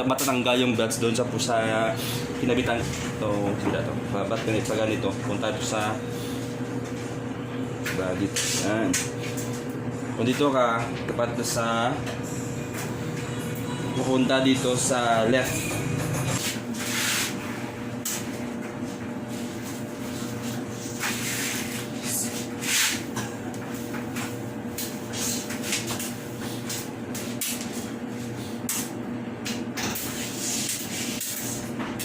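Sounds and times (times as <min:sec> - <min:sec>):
dryer motor hum: 0:00.0 - 0:32.0.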